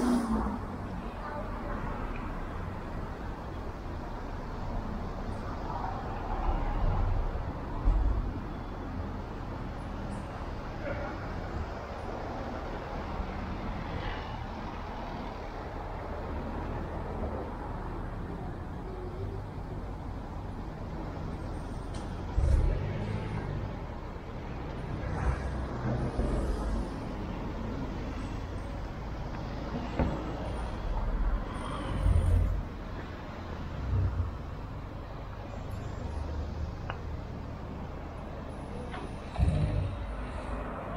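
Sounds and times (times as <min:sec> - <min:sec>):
street traffic noise: 0:00.0 - 0:40.9.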